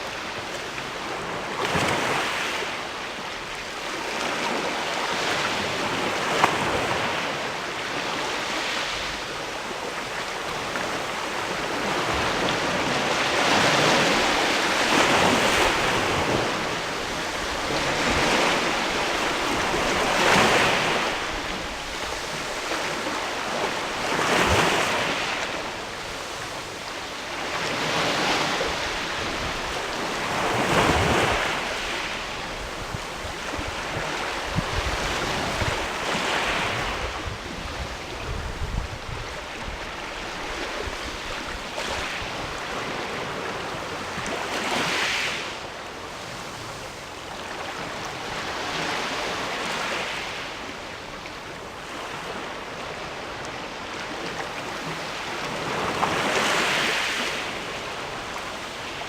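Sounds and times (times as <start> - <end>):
waves washing on rocky shore: 3.6 - 51.0, 51.7 - 59.0.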